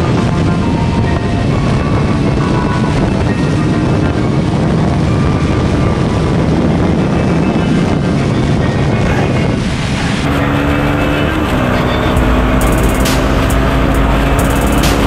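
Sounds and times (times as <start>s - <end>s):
motorcycle engine cruising: 0.0s - 15.0s
wind rush: 0.0s - 15.0s.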